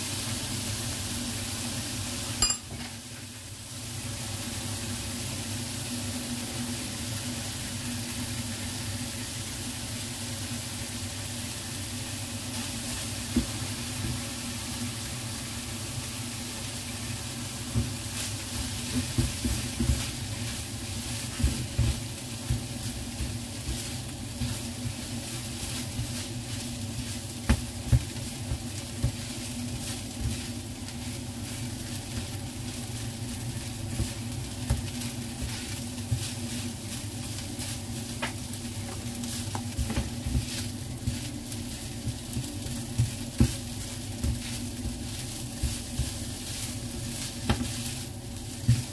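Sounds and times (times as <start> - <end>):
rice sizzling in a frying pan: 0.0 - 48.9.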